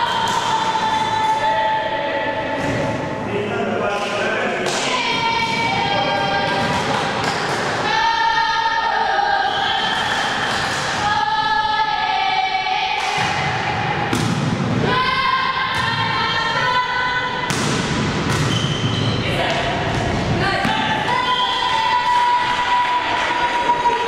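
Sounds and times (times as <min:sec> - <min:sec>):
young voices chanting: 0:00.0 - 0:02.9, 0:04.5 - 0:14.1, 0:14.8 - 0:17.5, 0:19.2 - 0:24.0.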